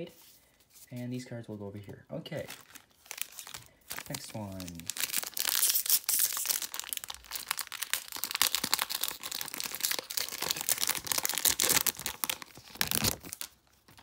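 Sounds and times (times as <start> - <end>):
foil wrapper crinkling and tearing: 2.4 - 14.0.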